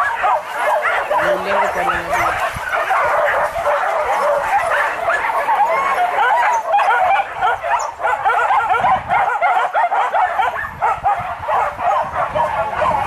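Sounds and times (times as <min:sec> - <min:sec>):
hunting dogs yelping: 0:00.0 - 0:13.0.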